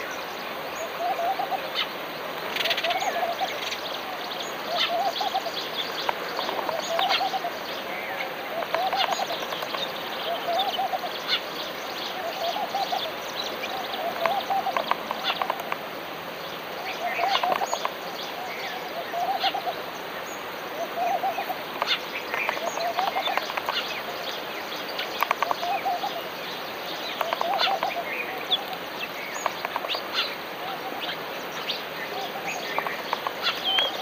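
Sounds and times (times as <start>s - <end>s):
bird low warbling call: 0.7s - 15.7s, 16.8s - 24.3s, 24.9s - 34.0s.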